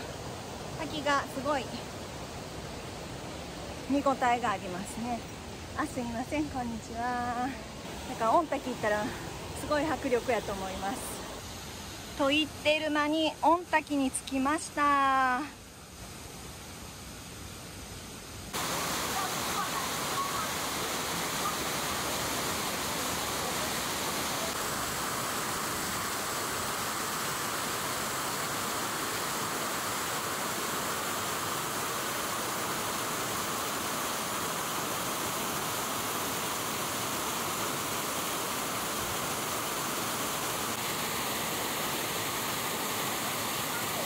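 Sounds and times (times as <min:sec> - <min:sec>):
waterfall thundering: 0:00.0 - 0:13.6, 0:18.5 - 0:44.0.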